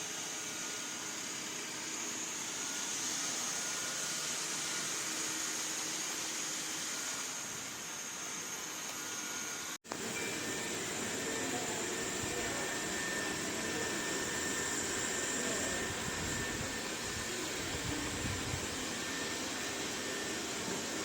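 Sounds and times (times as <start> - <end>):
robot vacuum running: 0.0 - 21.0.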